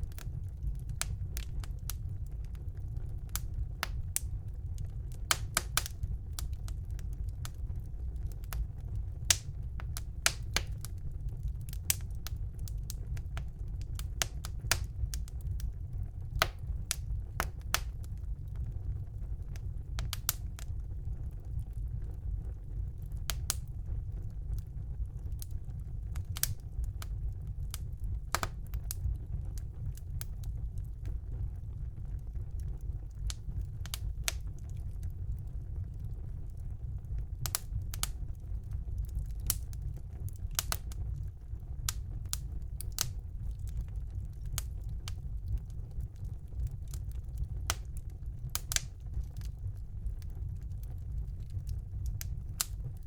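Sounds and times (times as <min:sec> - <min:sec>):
burning wood crackling and popping: 0:00.0 - 0:53.0
fire rumbling: 0:00.0 - 0:53.0.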